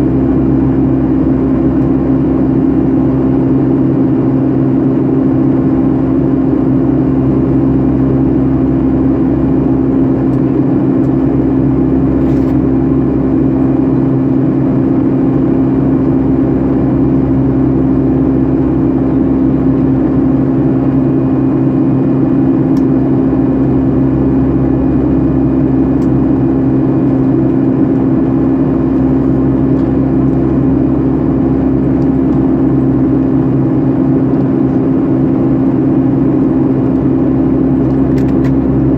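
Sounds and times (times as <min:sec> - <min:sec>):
constant low hum: 0:00.0 - 0:38.9
jet engine drone: 0:00.0 - 0:38.9.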